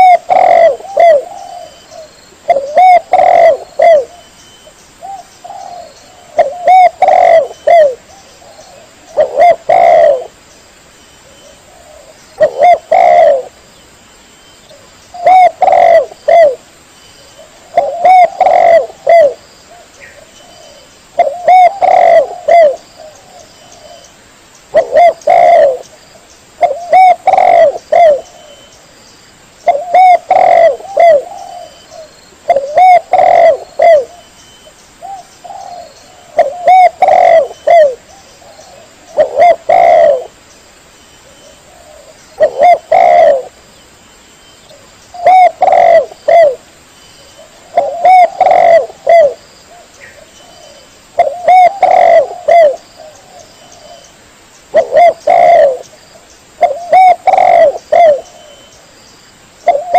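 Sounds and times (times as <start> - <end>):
dove cooing: 0.0 - 4.3, 5.0 - 10.4, 11.2 - 13.6, 14.7 - 16.6, 17.3 - 24.1, 24.7 - 25.9, 26.6 - 28.7, 29.6 - 34.3, 35.0 - 40.4, 41.2 - 43.6, 44.7 - 54.1, 54.7 - 58.7, 59.6 - 59.9.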